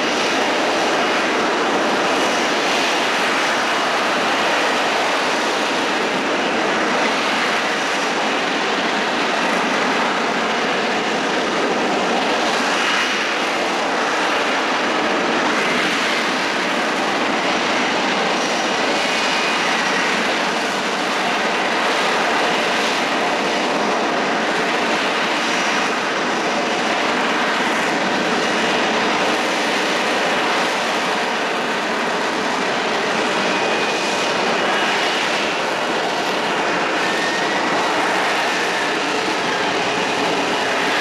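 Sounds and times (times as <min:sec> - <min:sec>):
jet engine running: 0:00.0 - 0:41.0.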